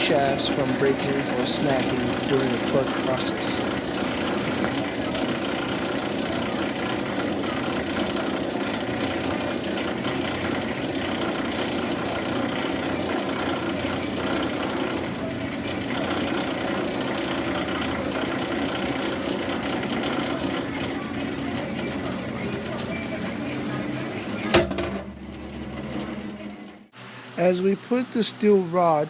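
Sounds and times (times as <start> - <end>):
shop machinery humming: 0.0 - 29.0.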